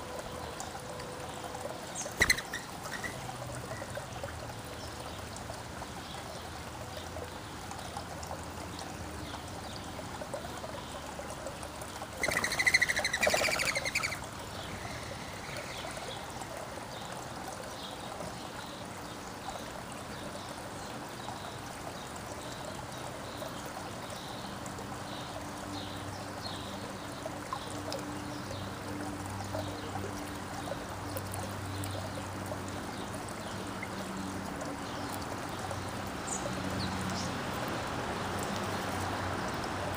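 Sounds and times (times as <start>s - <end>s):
songbirds chirping: 0.0s - 39.9s
trickling water: 0.0s - 39.9s.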